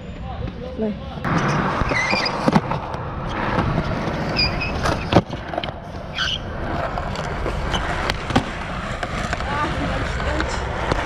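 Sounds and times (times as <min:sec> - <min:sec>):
skateboard wheels rolling on concrete: 0:00.1 - 0:11.0
skateboard clacking on ground: 0:01.2 - 0:11.0.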